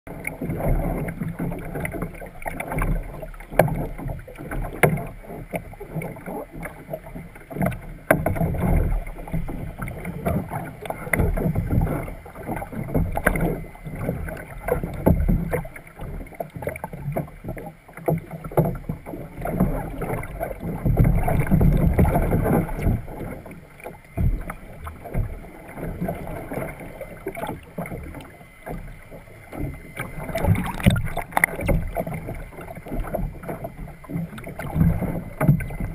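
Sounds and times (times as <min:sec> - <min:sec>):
muffled water churning underwater: 0:00.1 - 0:35.9.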